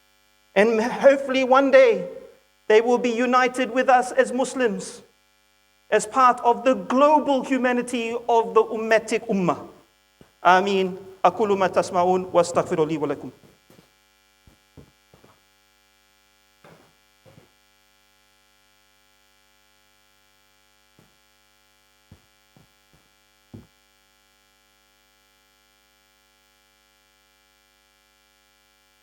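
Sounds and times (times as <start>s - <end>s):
electrical mains hum: 0.6s - 19.2s, 19.8s - 24.4s.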